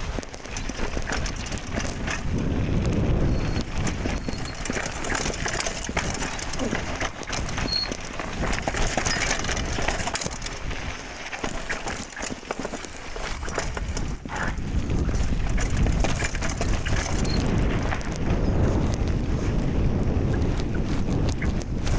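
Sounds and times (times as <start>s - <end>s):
bike rattling and clicking: 0.0s - 21.9s
bike tyres on dirt: 0.0s - 21.9s
wind rumbling on microphone: 0.0s - 21.9s.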